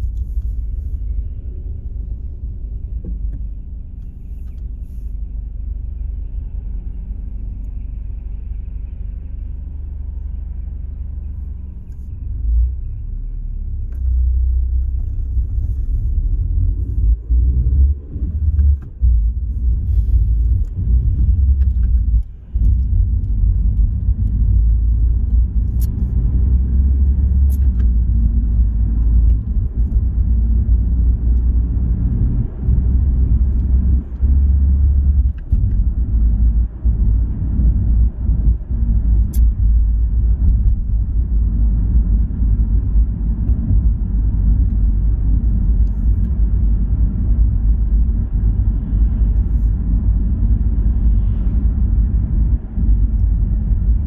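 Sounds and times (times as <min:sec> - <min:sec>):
car driving at speed: 0:00.0 - 0:54.0.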